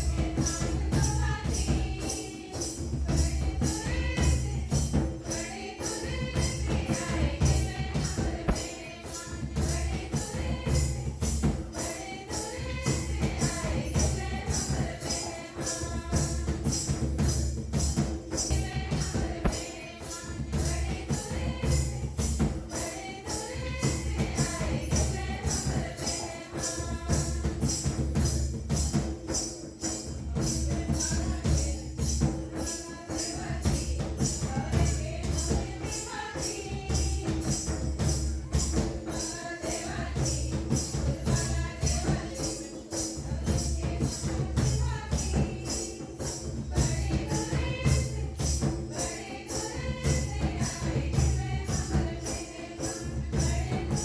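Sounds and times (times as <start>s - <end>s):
group of voices singing: 0.0s - 28.0s, 30.3s - 54.0s
jingling percussion strikes: 0.0s - 54.0s.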